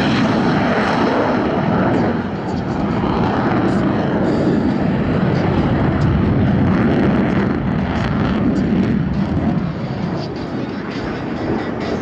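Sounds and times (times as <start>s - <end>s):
jet engines passing: 0.0s - 12.0s.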